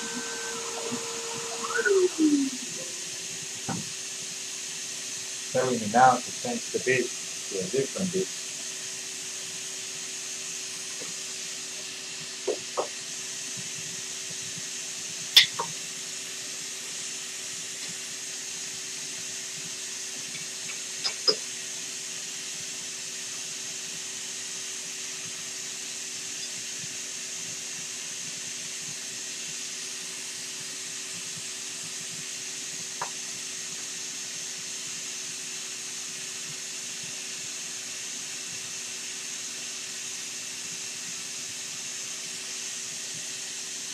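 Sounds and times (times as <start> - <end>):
vacuum pump low hum: 0.0 - 43.9.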